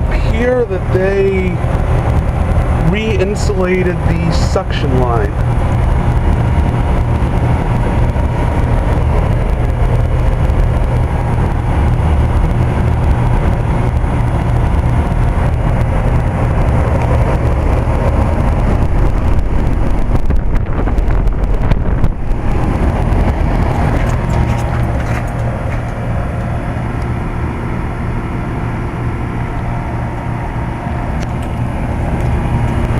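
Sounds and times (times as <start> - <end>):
air conditioner humming: 0.0 - 32.9
fan air noise: 0.0 - 32.9.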